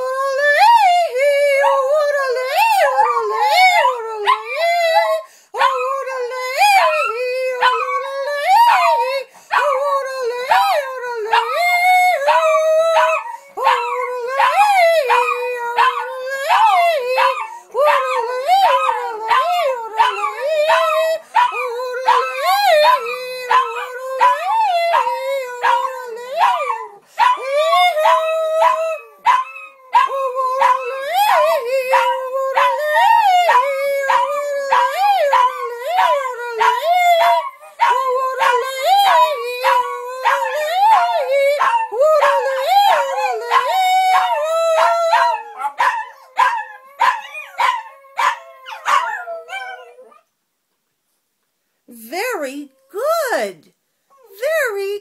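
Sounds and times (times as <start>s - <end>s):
woman yodeling: 0.0s - 45.6s, 51.9s - 53.7s, 54.3s - 55.0s
small dogs howling: 0.5s - 50.3s.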